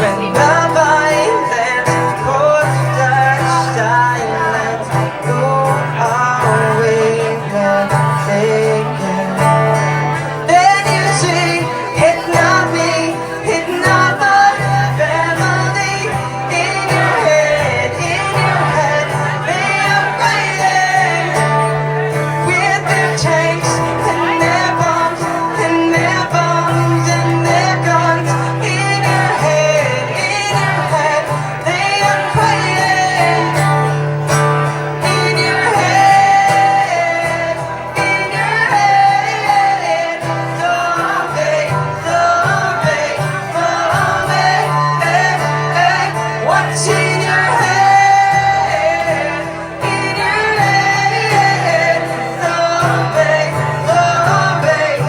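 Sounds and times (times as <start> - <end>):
guitar: 0.0 - 55.0
person singing: 0.0 - 55.0.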